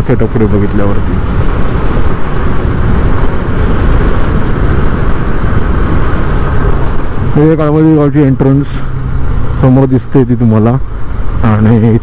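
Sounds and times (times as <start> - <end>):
road noise: 0.0 - 12.0
wind buffeting on microphone: 0.0 - 12.0.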